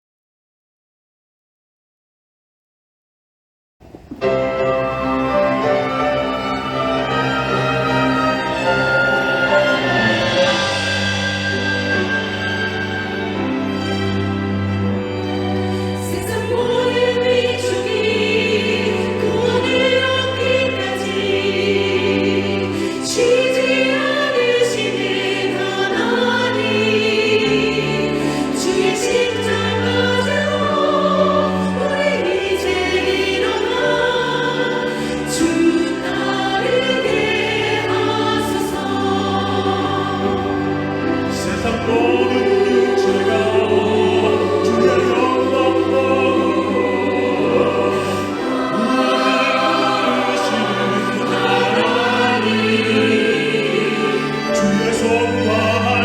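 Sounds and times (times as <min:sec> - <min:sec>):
slow sacred ensemble music: 0:03.9 - 0:56.0.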